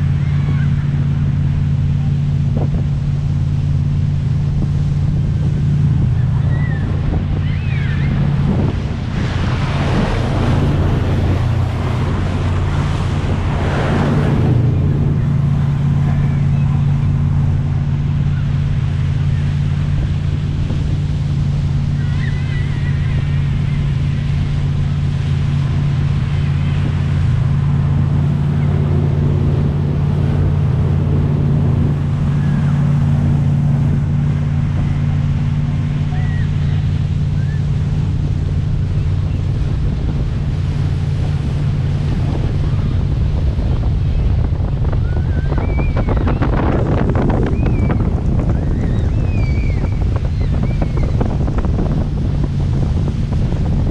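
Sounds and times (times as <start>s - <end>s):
motorboat engine humming: 0.0s - 53.9s
water rushing: 0.0s - 53.9s
wind buffeting microphone: 0.0s - 53.9s.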